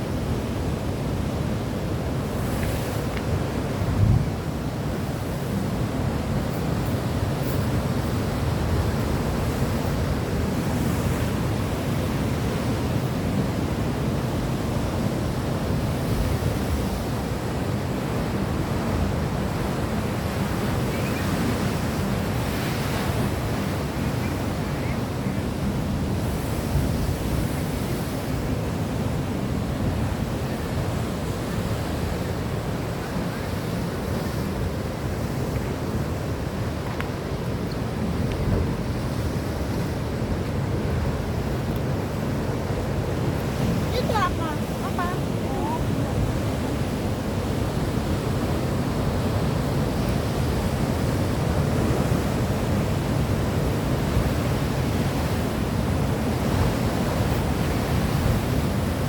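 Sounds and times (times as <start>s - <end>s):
wind: 0.0s - 59.0s
surf rushing: 1.6s - 59.0s.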